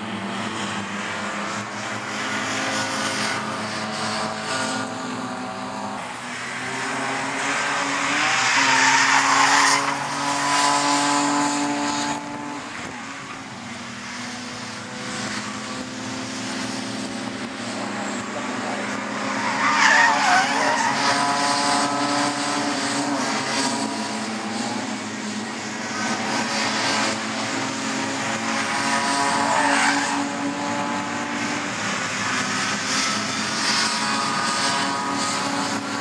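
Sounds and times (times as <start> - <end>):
racing cars passing: 0.0 - 36.0.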